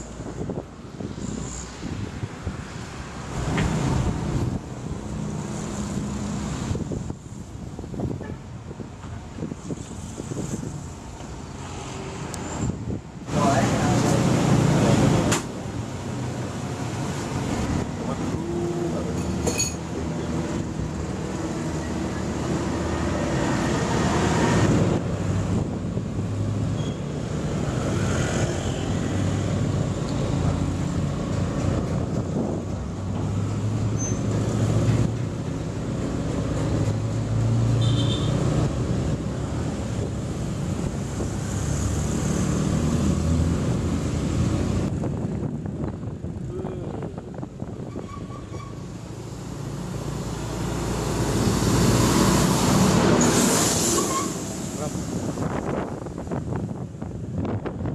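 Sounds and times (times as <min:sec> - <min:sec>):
traffic: 0:00.0 - 0:57.9
wind and road noise: 0:00.0 - 0:57.9.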